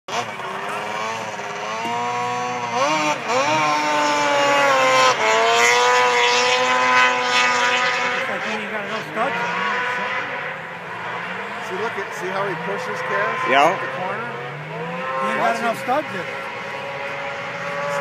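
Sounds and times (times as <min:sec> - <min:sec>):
snowmobile engines at high revs: 0:00.1 - 0:18.0.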